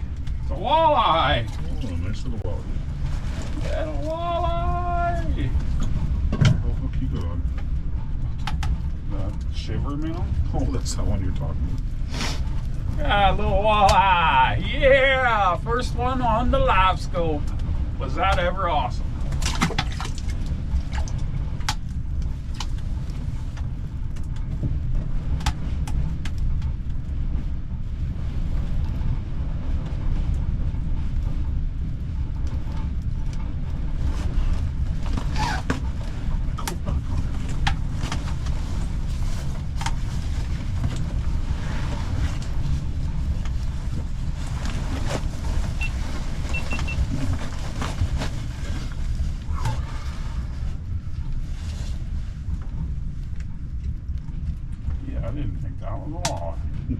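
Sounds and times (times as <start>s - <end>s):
storm wind on microphone: 0.0s - 56.9s.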